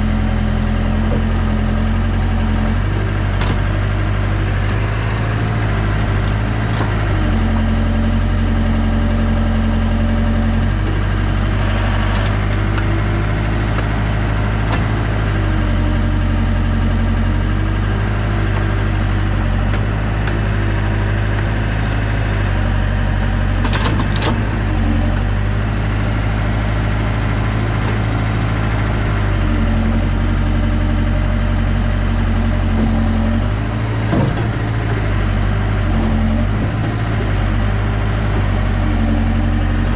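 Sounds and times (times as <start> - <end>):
heavy equipment engine running: 0.0 - 39.9.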